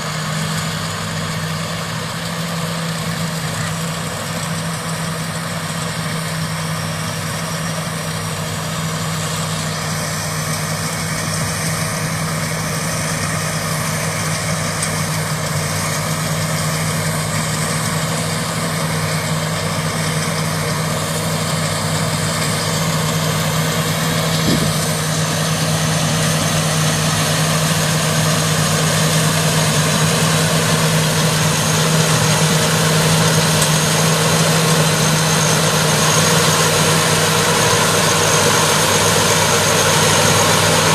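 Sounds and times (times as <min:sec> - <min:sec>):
combine harvester engine humming: 0:00.0 - 0:40.9.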